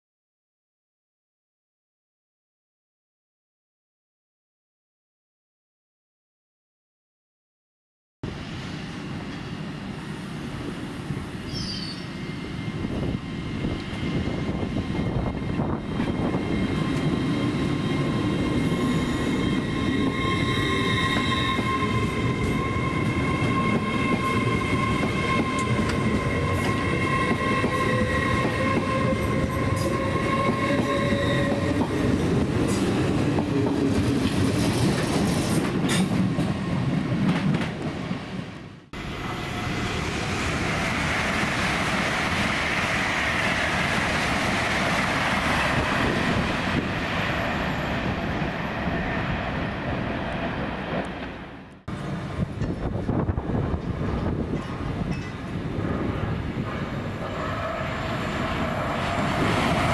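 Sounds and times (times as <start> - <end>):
train wheels rumbling on rail: 8.3 - 59.9.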